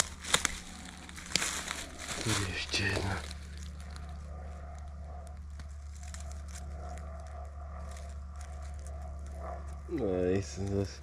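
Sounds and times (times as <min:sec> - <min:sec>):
leaf litter crackling and rustling: 0:00.0 - 0:10.9
low hum: 0:00.0 - 0:11.0.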